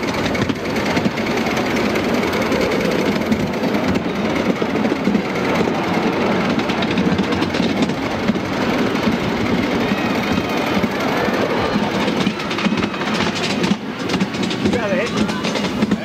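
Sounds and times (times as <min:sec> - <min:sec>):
steam locomotive exhaust chuffing: 0:00.0 - 0:16.0
wheels rattling on rails: 0:00.0 - 0:16.0.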